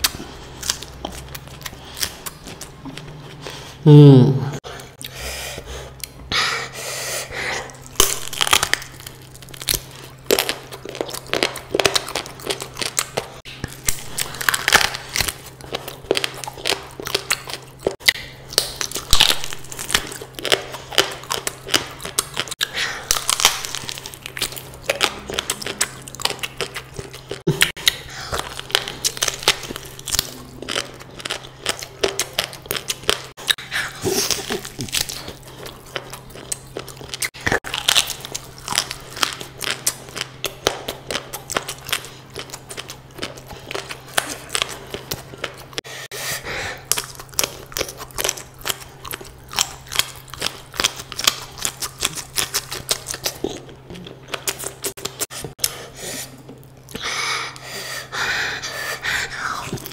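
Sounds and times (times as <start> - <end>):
crunching and chewing food: 0.0 - 3.8, 7.2 - 59.9.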